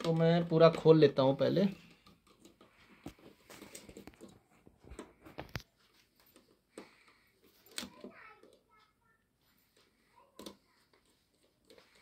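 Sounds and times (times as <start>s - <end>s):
faint metal clicks and scraping: 0.0s - 12.0s.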